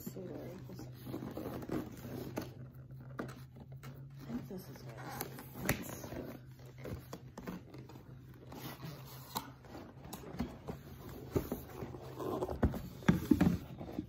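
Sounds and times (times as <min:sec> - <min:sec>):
cardboard and paper rustling: 0:00.0 - 0:14.0.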